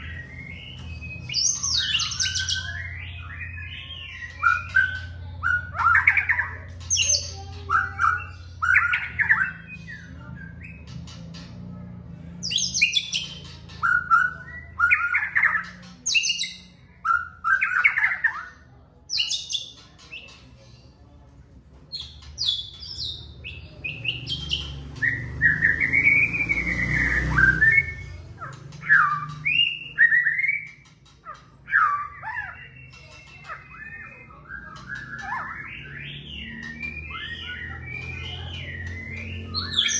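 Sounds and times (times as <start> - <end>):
songbird whistling and chattering: 0.0 - 10.9, 12.4 - 20.3, 21.9 - 39.9.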